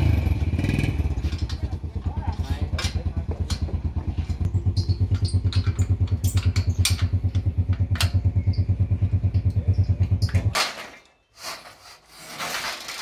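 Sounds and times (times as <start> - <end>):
small engine idling: 0.0 - 10.5.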